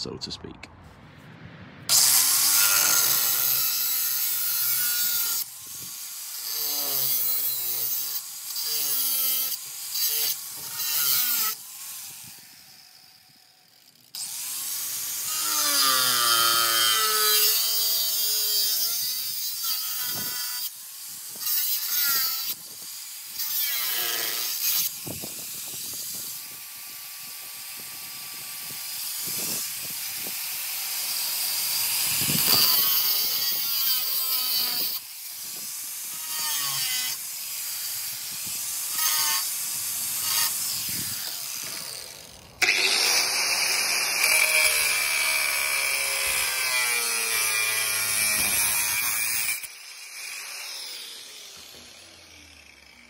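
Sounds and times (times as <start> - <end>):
angle grinder cutting steel: 1.9 - 53.0.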